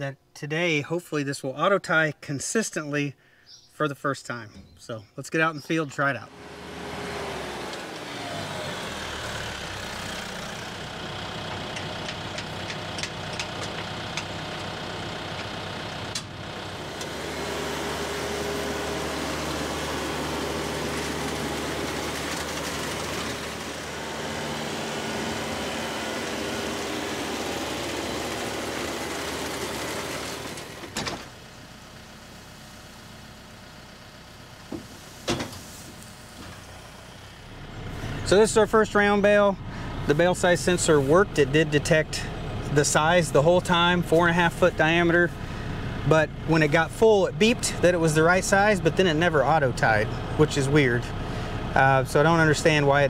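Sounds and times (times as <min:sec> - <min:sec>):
tractor engine running: 0:05.8 - 0:53.0
round baler working: 0:06.3 - 0:53.0.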